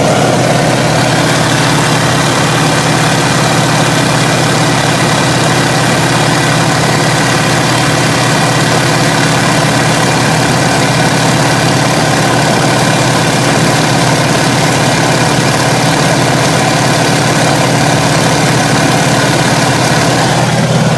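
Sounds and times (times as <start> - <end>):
propeller plane engine running: 0.0 - 20.9.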